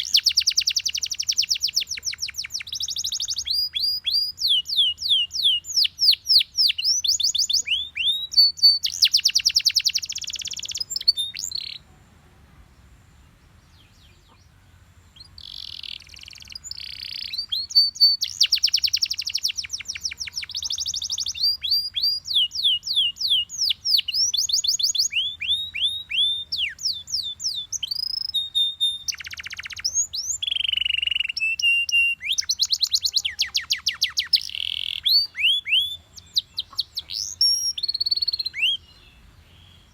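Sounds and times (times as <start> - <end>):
canary singing: 0.0 - 11.9, 13.7 - 39.9.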